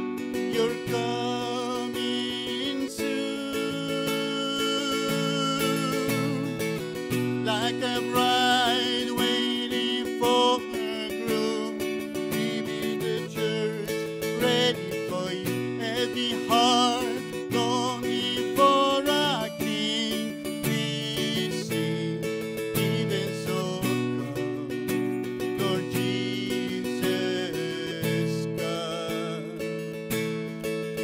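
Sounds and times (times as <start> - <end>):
acoustic guitar strumming: 0.0 - 31.0
man singing: 0.0 - 31.0.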